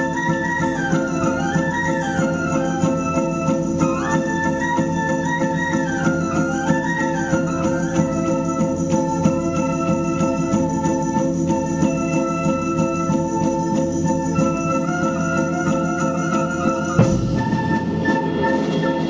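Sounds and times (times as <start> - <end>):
flute band melody: 0.0 - 19.0.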